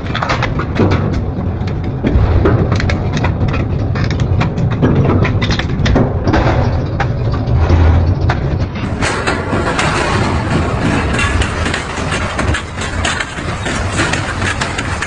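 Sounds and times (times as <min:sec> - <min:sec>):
metal cracking and banging: 0:00.0 - 0:15.0
metal shredder rumbling: 0:00.0 - 0:15.0.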